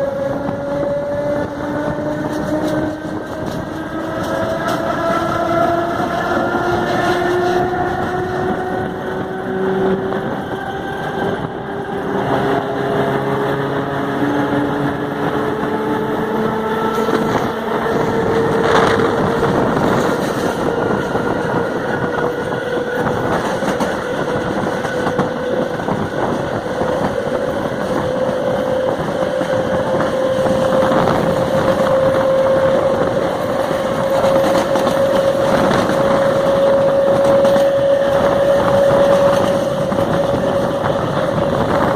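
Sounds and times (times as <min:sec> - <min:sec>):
electric train motor whine: 0:00.0 - 0:41.9
rumble of running train: 0:00.0 - 0:41.9.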